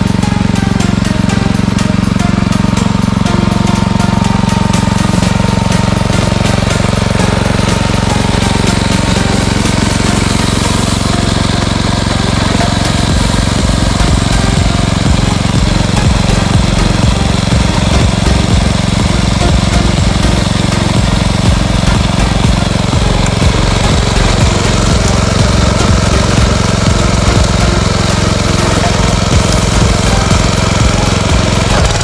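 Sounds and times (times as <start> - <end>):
fast rattling clatter: 0.0 - 32.0
small tractor engine running: 0.0 - 32.0.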